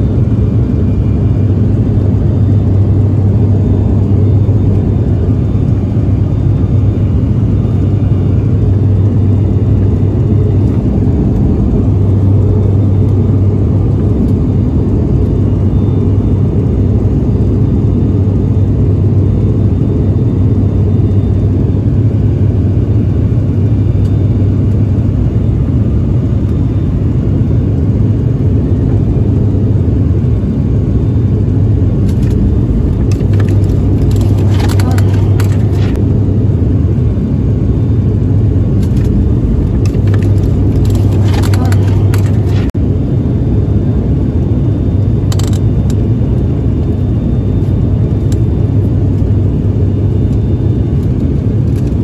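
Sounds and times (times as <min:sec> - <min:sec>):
turboprop engines droning: 0:00.0 - 0:52.0.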